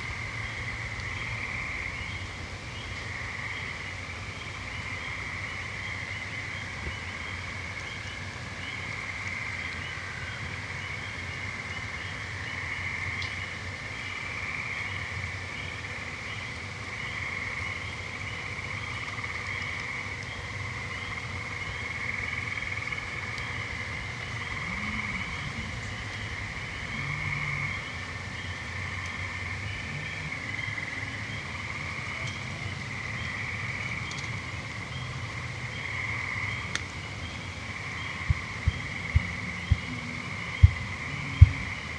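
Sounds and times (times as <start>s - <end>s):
frogs and toads trilling: 0.0s - 41.9s.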